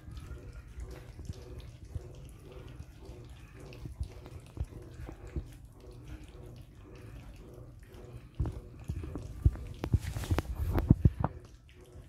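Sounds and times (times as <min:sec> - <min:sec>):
low steady hum: 0:00.0 - 0:12.0
puppies lapping and chewing: 0:00.0 - 0:12.0.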